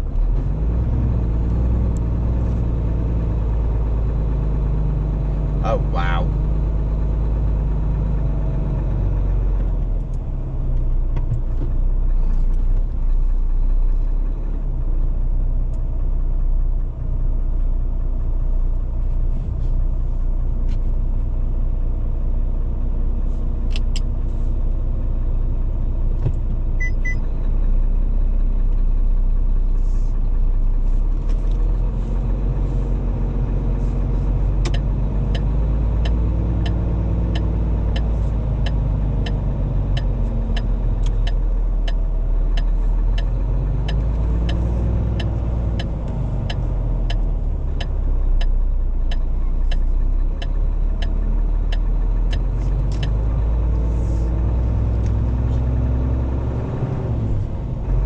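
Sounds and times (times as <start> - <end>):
diesel lorry engine running: 0.0 - 58.0.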